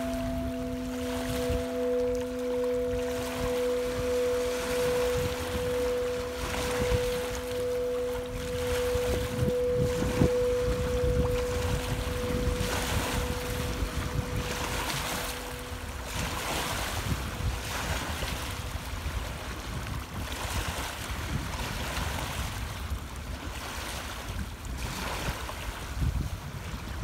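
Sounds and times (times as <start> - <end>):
singing bowl ringing tone: 0.0 - 22.6
wind rumbling on microphone: 0.0 - 27.0.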